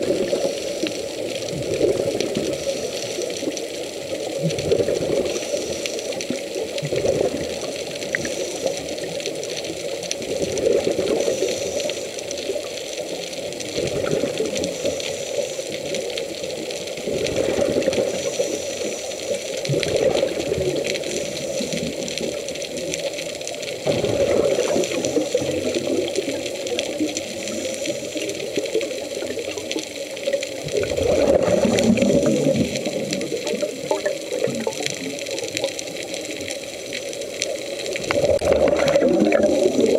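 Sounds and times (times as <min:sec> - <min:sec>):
underwater diver bubbles: 0:00.0 - 0:39.9.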